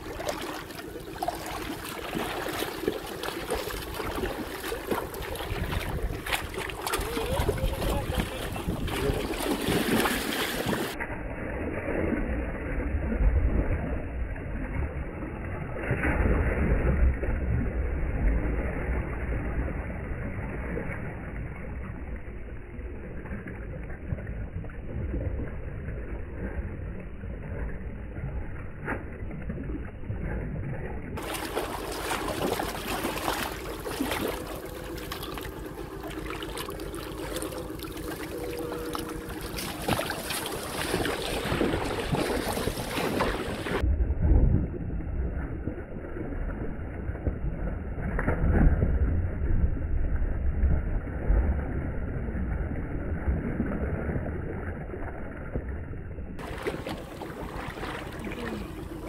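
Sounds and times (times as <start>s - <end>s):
river water splashing: 0.0s - 55.8s, 56.4s - 59.0s
wind rumbling on microphone: 3.4s - 59.0s.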